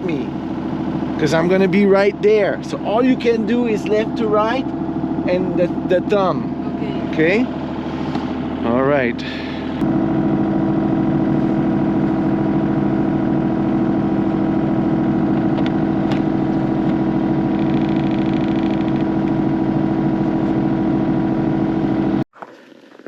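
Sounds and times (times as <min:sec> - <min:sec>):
excavator engine running: 0:00.0 - 0:22.2.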